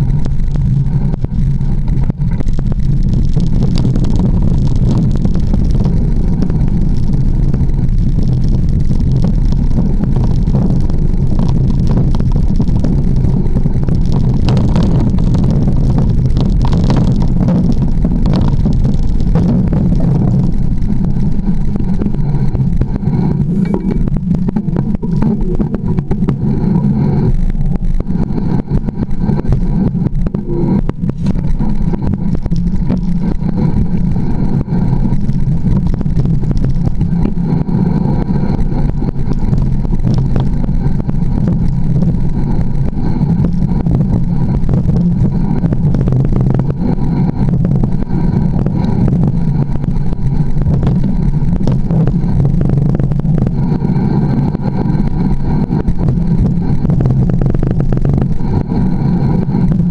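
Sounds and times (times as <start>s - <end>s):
bike tyre rumble: 0.0s - 59.9s
wind rush on microphone: 0.0s - 59.9s.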